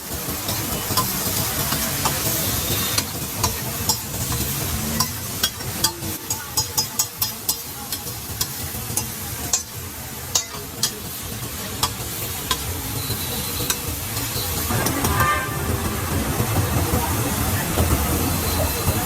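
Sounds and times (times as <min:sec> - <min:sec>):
food sizzling on a griddle: 0:00.0 - 0:19.0
metal spatula tapping and scraping: 0:00.1 - 0:16.5.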